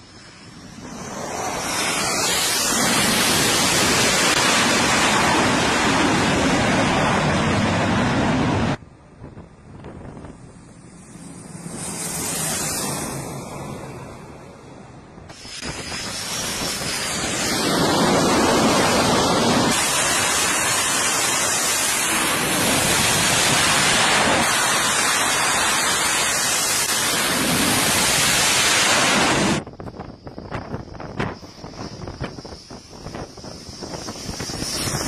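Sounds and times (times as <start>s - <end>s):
jet engines at full thrust: 0.0s - 35.0s.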